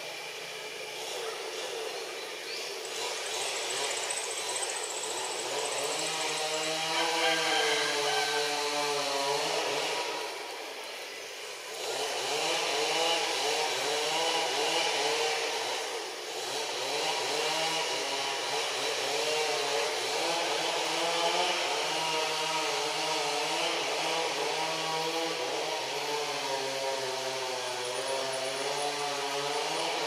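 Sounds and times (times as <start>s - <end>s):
small engine buzzing: 0.0s - 30.0s.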